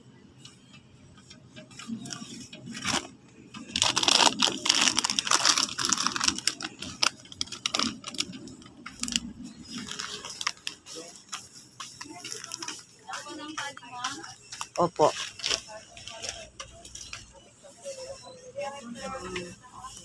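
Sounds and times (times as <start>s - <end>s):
rustling and crinkling handling noise: 1.2s - 20.0s.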